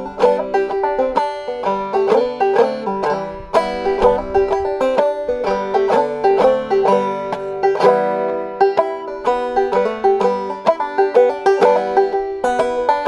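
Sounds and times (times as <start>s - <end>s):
banjo plucked notes: 0.0s - 13.0s.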